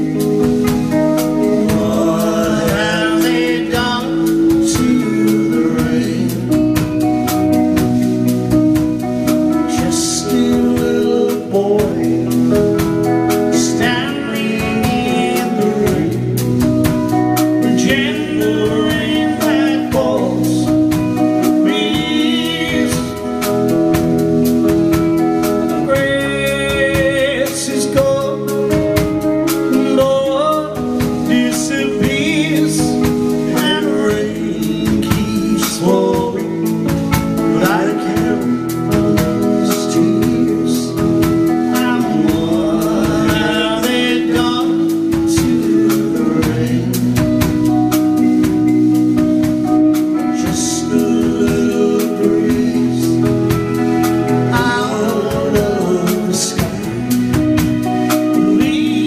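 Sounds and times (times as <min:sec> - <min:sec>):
bass guitar: 0:00.0 - 0:59.0
drums: 0:00.0 - 0:59.0
electric guitars: 0:00.0 - 0:59.0
person singing: 0:00.0 - 0:59.0.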